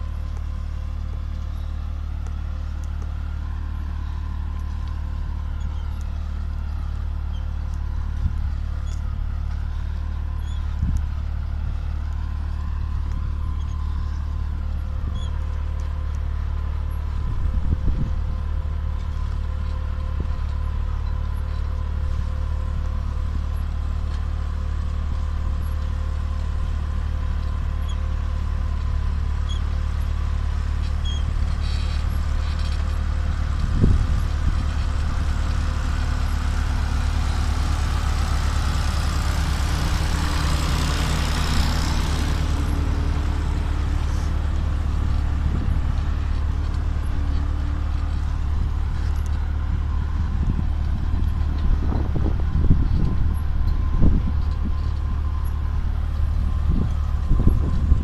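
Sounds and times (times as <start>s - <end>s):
tractor engine rumbling: 0.0s - 58.0s.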